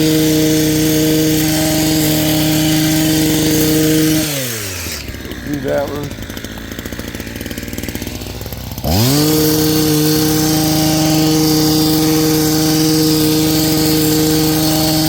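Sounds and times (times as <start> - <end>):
hedge trimmer running: 0.0 - 15.0.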